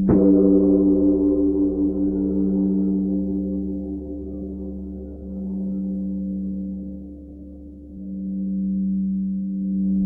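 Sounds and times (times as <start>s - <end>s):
low drone: 0.0s - 10.0s
singing bowl ringing tones: 0.0s - 10.0s.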